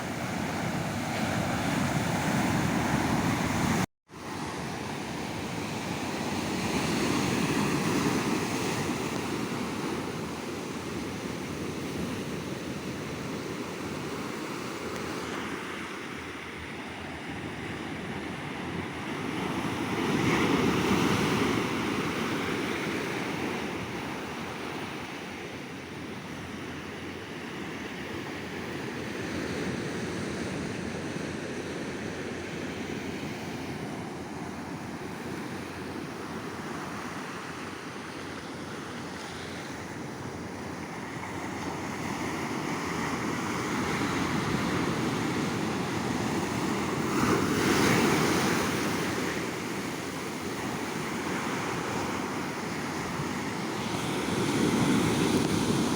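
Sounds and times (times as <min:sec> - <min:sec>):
sea waves breaking on a beach: 0:00.0 - 0:55.9.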